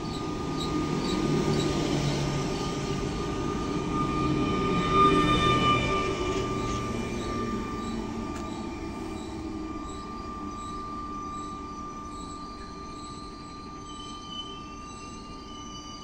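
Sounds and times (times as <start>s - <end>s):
train brakes squealing: 0.0s - 16.0s
train rumbling: 0.0s - 16.0s.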